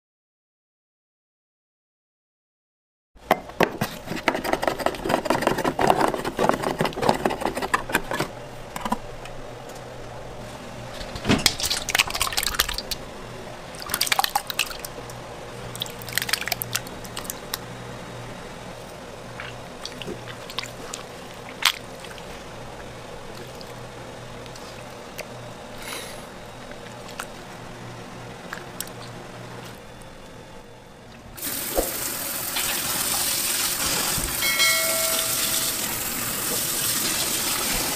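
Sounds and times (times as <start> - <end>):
low steady hum: 3.2 - 37.9.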